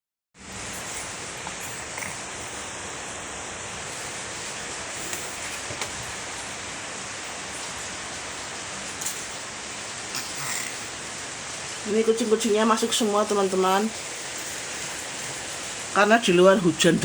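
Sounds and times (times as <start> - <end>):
heavy rain pouring: 0.4 - 17.0.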